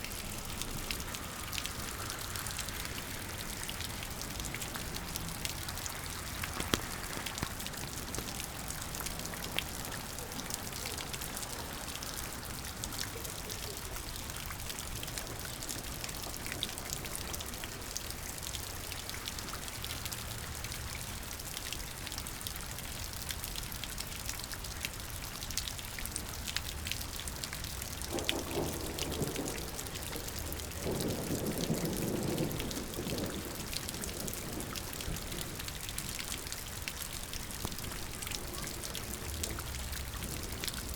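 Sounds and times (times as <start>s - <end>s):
raindrops ticking on surfaces: 0.0s - 40.9s
steady rain: 0.0s - 40.9s.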